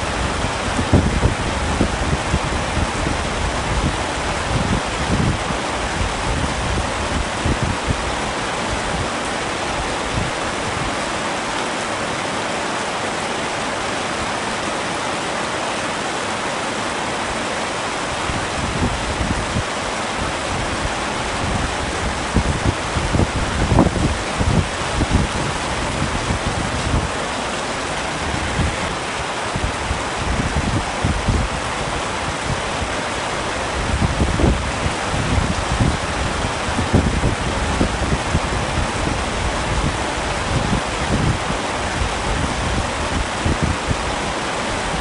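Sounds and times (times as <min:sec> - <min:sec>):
low gusty rumbling: 0:00.0 - 0:11.4, 0:17.3 - 0:45.0
heavy rain falling: 0:00.0 - 0:45.0.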